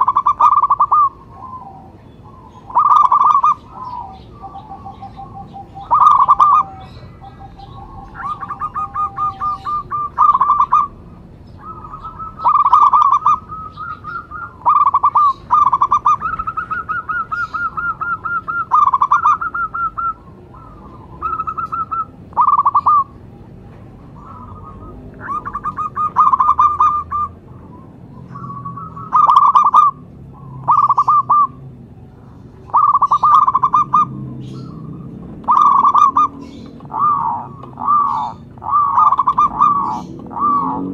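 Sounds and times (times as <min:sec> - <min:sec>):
dove cooing in stuttering notes: 0:00.0 - 0:31.8, 0:32.6 - 0:40.9.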